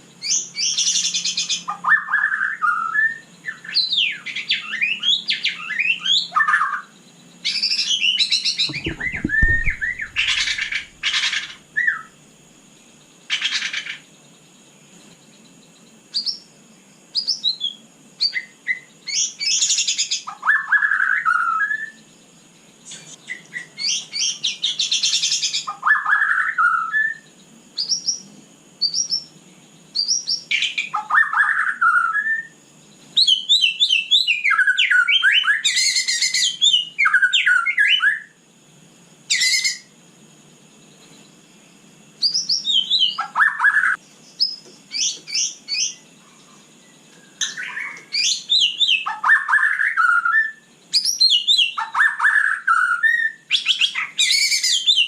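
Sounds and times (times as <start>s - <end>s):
bird singing: 0.0s - 55.0s.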